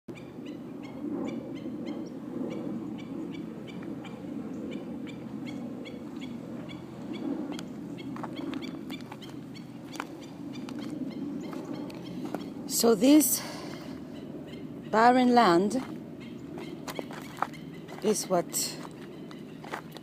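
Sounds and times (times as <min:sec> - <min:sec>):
low background rumble: 0:00.2 - 0:20.0.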